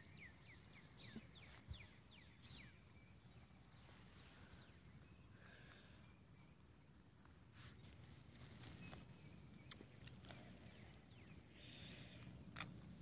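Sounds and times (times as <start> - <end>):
faint birdsong: 0.0 - 13.0
faint steady hiss: 0.0 - 13.0.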